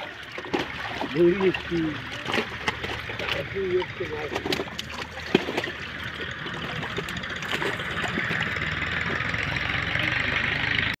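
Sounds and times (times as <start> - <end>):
engine running: 0.0 - 11.0
water splashing: 0.0 - 11.0.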